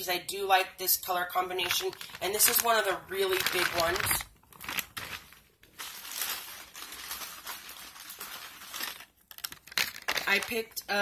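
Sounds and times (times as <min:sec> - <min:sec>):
plastic crinkling and rustling: 0:01.5 - 0:11.0.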